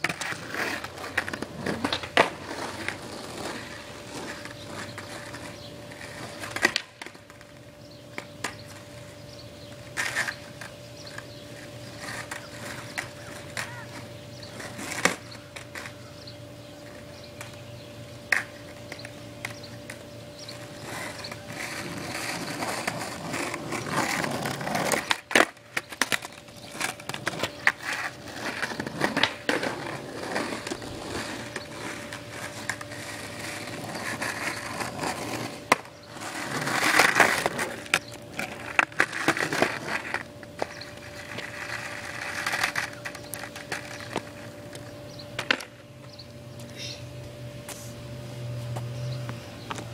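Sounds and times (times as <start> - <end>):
skateboard clacking on ground: 0.0 - 9.1, 9.8 - 16.2, 16.8 - 46.2
skateboard wheels rolling on pavement: 0.0 - 49.9.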